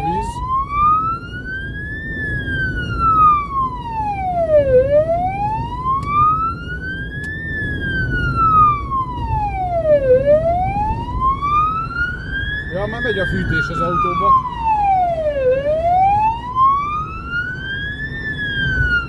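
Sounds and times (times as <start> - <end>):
road rumble: 0.0 - 19.0
siren wailing: 0.0 - 19.0.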